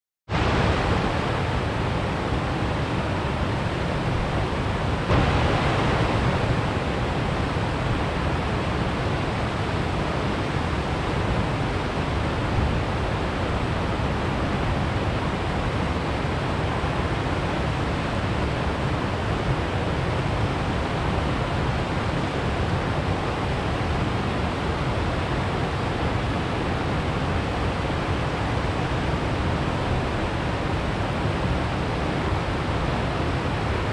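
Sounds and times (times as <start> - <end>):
small waterfall over rock ledges: 0.3 - 33.9.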